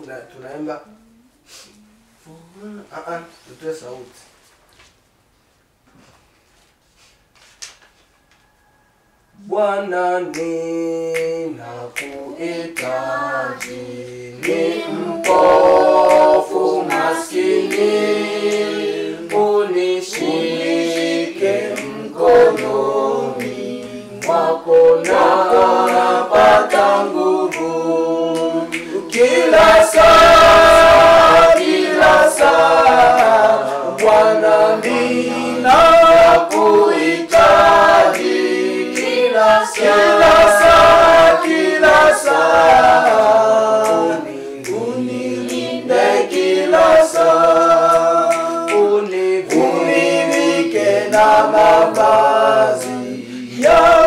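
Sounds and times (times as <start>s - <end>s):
choir singing a hymn: 9.8s - 54.0s.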